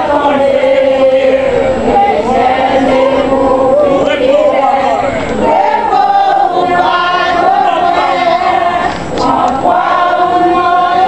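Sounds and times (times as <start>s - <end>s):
congregation singing a chant: 0.0s - 11.0s.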